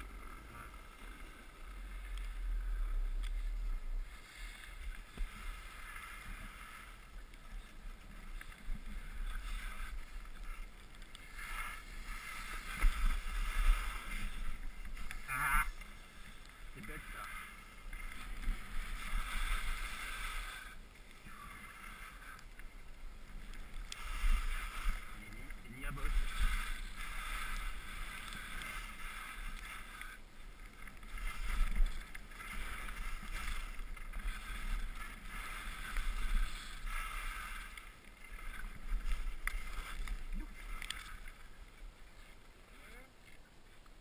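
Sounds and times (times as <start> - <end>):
skis scraping on snow: 0.0 - 43.8.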